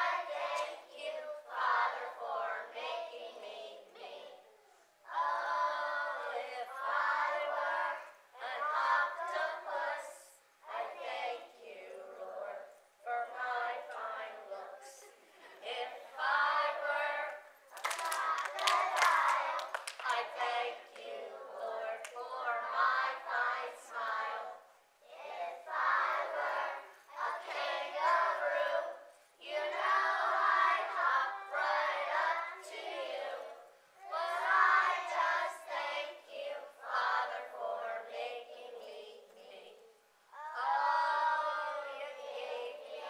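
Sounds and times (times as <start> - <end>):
children singing: 0.0 - 39.8, 40.4 - 43.0.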